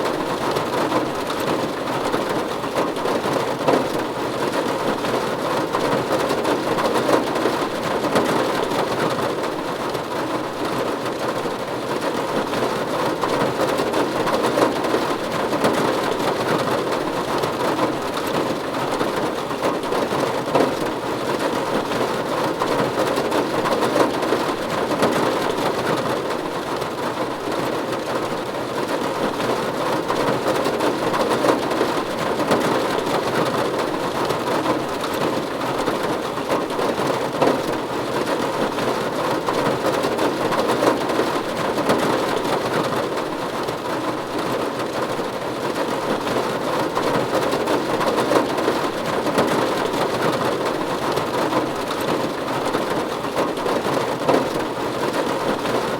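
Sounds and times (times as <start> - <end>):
rain falling on a roof: 0.0 - 55.9.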